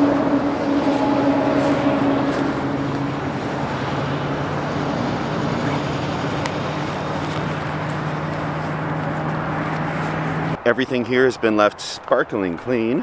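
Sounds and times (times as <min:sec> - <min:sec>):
heavy road traffic: 0:00.0 - 0:13.0.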